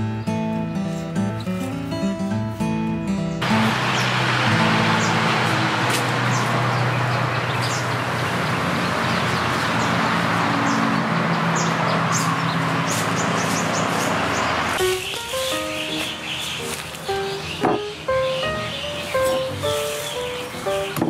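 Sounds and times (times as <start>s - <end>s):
small birds chirping: 3.3s - 21.0s.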